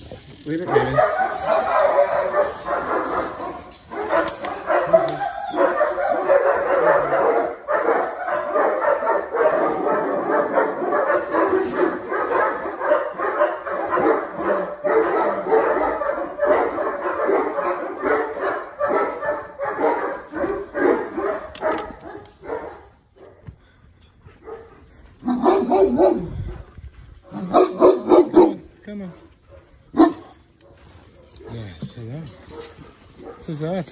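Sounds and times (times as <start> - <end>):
dogs barking: 0.0 - 23.5, 24.3 - 28.8, 29.4 - 33.9.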